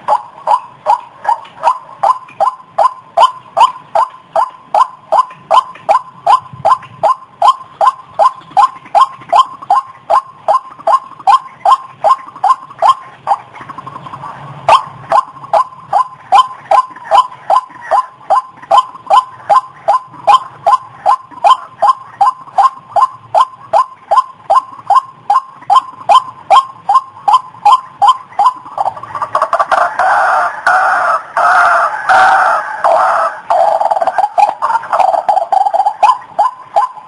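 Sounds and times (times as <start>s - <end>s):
waterhen calls: 0.0s - 37.0s.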